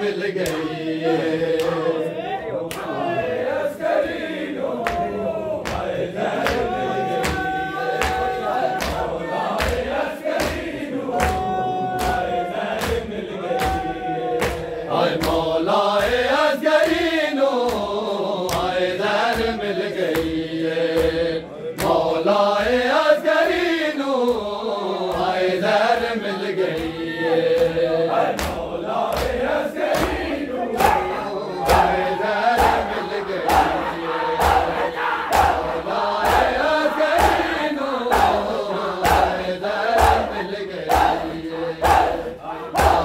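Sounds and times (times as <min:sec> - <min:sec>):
men chanting in unison: 0:00.0 - 0:43.0
rhythmic chest-beating slaps: 0:00.0 - 0:43.0.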